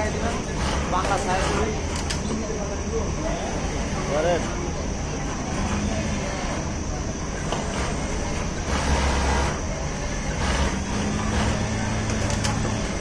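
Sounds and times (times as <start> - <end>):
industrial sewing machines running: 0.0 - 13.0.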